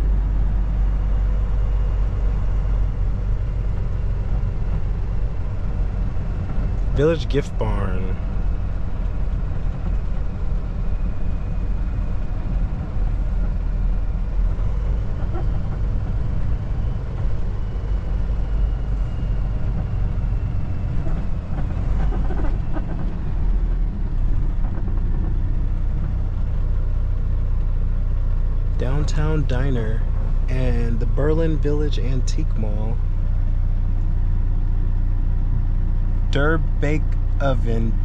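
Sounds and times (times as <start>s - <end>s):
road noise: 0.0s - 38.0s
truck diesel engine droning: 0.0s - 38.0s.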